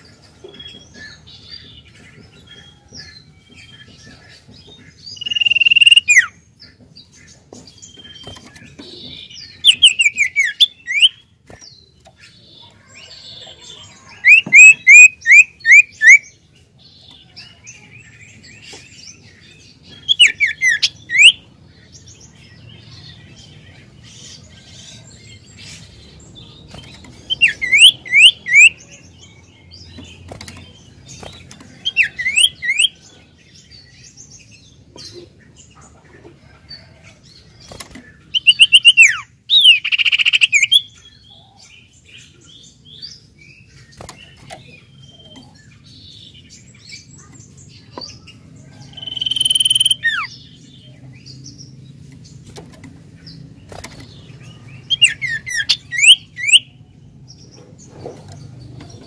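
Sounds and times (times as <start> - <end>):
bird singing sharp phrases: 0.0 - 36.0, 37.5 - 59.0.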